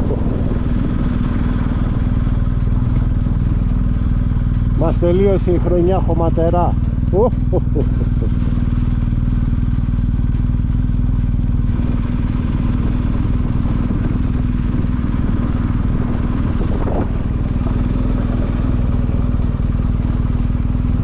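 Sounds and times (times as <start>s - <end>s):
motorcycle engine low drone: 0.0s - 21.0s.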